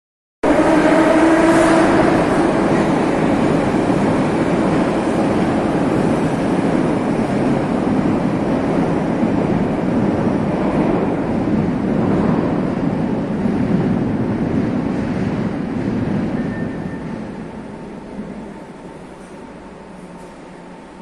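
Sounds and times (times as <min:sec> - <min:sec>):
low rumbling station noise: 0:00.4 - 0:21.0.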